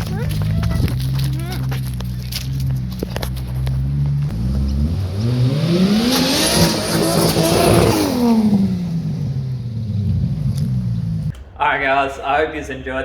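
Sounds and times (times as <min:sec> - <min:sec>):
car engine revving hard: 0:00.0 - 0:11.3
tyres screeching: 0:00.0 - 0:11.4.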